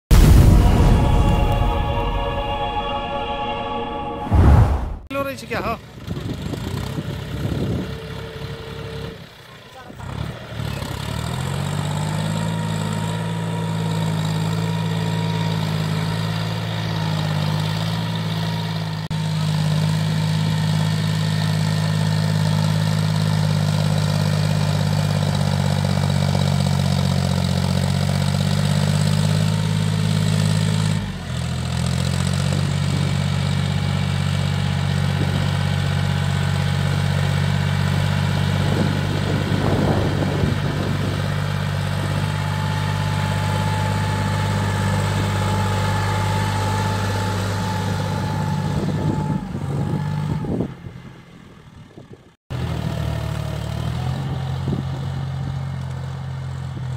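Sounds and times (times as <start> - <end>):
tractor diesel engine running: 5.2 - 56.9.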